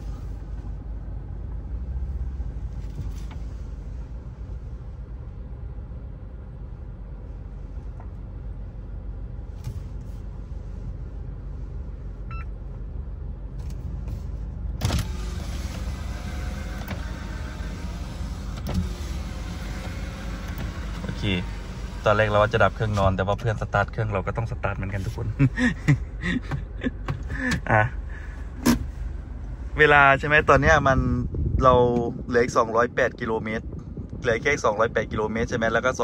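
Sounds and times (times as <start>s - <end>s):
diesel engine running: 0.0s - 31.5s.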